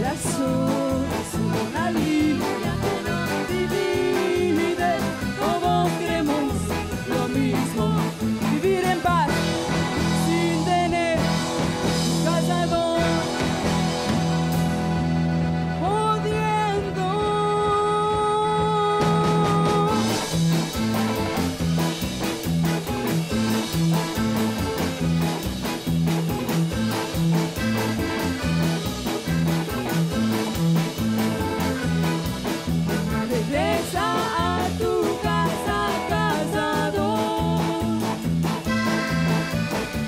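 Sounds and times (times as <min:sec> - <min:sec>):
bouncing bass beat: 0:00.0 - 0:40.0.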